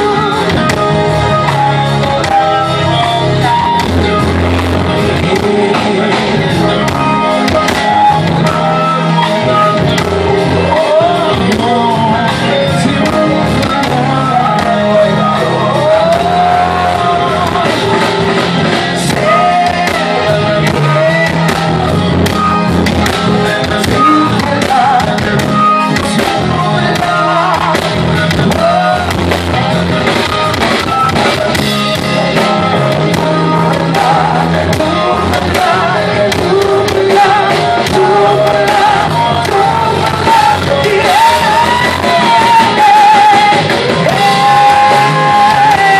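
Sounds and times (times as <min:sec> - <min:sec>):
electric guitar: 0:00.0 - 0:45.9
keyboards: 0:00.0 - 0:45.9
low bass line: 0:00.0 - 0:45.9
person singing into microphone: 0:00.0 - 0:45.9.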